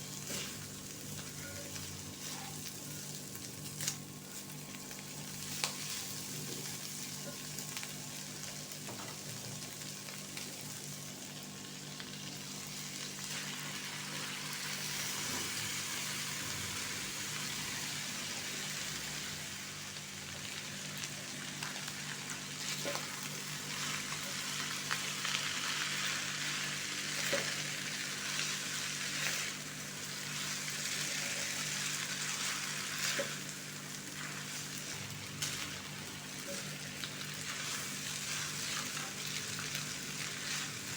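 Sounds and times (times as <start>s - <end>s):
food sizzling in hot oil: 0.0s - 40.9s.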